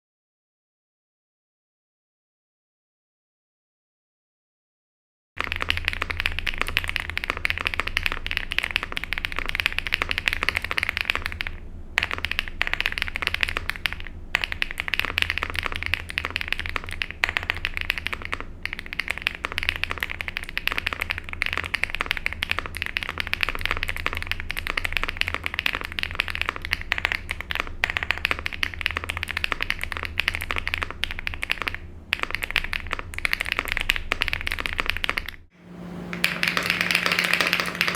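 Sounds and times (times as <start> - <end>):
mechanical keyboard typing clatter: 5.4 - 35.5, 36.1 - 37.9.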